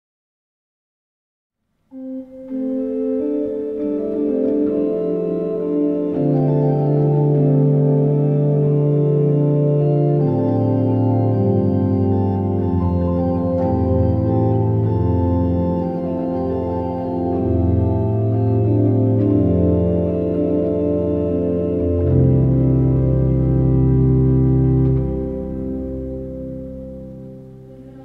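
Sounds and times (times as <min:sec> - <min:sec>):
organ playing slow chords: 0:01.9 - 0:28.0.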